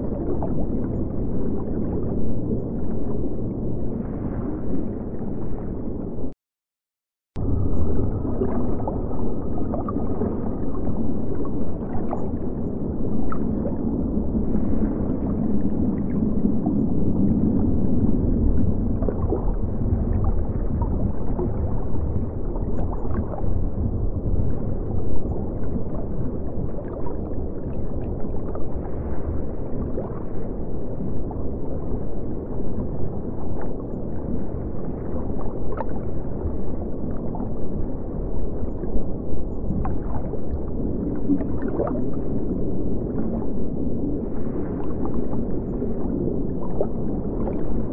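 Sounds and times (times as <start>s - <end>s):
underwater water gurgling: 0.0s - 6.3s, 7.4s - 47.9s.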